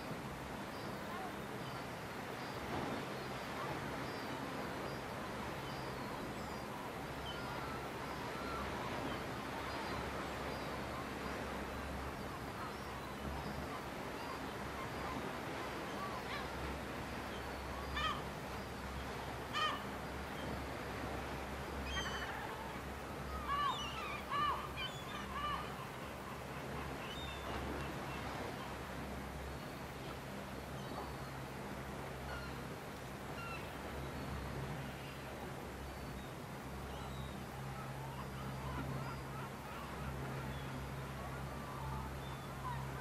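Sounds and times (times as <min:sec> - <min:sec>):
steady outdoor hiss: 0:00.0 - 0:43.0.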